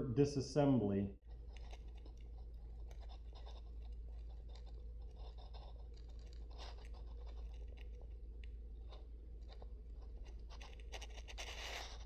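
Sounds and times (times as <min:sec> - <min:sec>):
steady low hum: 0:00.0 - 0:12.0
faint scratching and clicking: 0:01.2 - 0:12.0.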